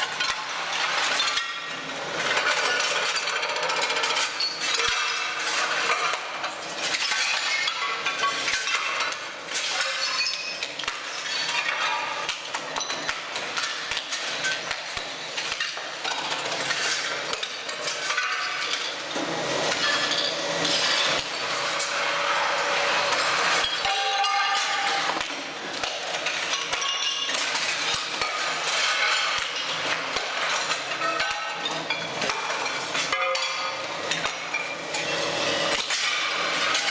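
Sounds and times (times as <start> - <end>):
floor tiles cracking and crunching: 0.0 - 36.9.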